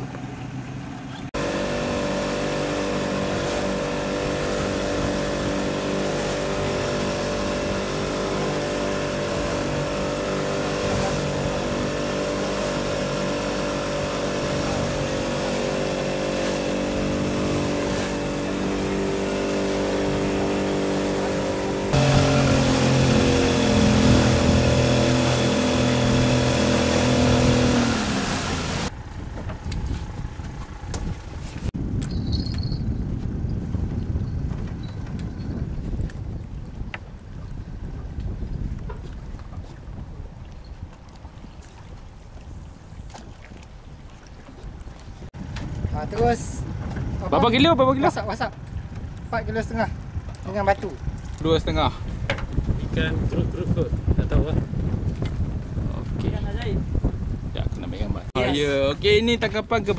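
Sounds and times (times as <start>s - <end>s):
boat engine running: 0.0s - 59.9s
wind and water hiss: 0.0s - 59.9s.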